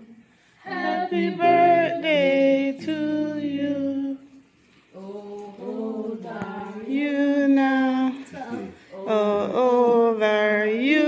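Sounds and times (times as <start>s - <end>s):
group singing without instruments: 0.0s - 11.0s.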